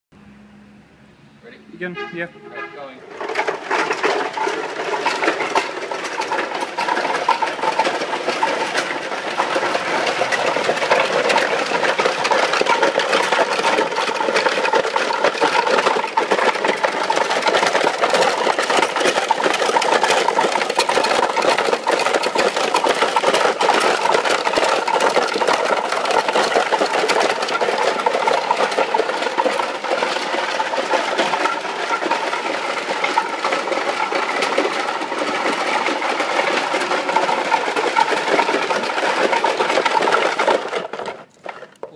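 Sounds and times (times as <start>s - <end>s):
ice shaver rattling whir: 3.0s - 41.9s.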